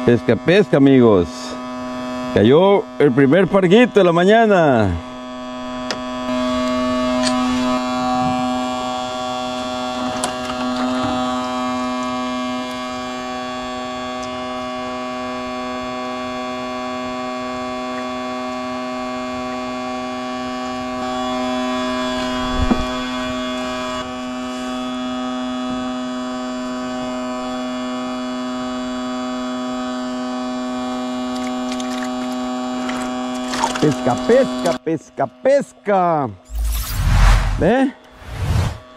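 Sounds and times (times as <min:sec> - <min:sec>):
steady hum with overtones: 0:00.0 - 0:34.9, 0:36.4 - 0:38.9.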